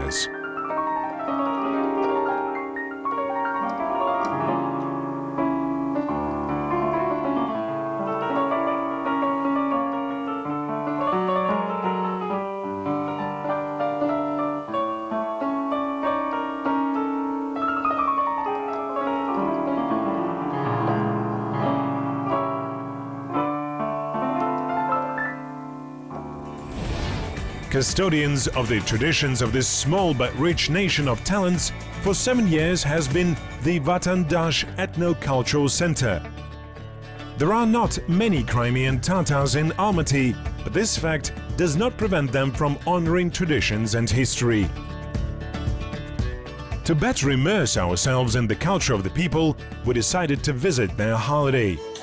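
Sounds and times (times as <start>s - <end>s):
electronic keyboard jazz piece: 0.0s - 52.0s.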